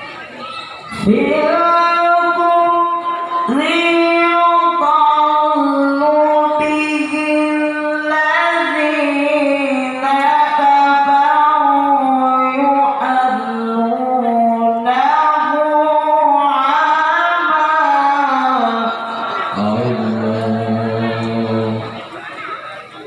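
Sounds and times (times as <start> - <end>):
solo voice chanting over loudspeakers: 0.9 - 22.4.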